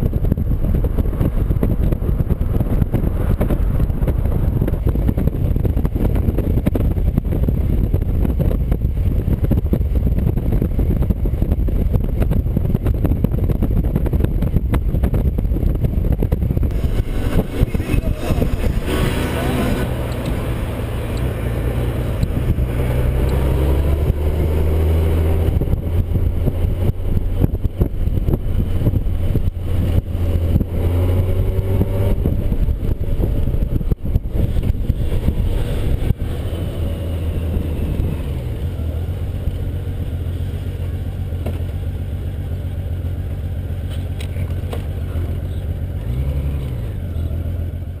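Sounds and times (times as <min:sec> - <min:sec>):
motorcycle engine running: 0:00.0 - 0:48.0
wind rumbling on microphone: 0:00.0 - 0:48.0.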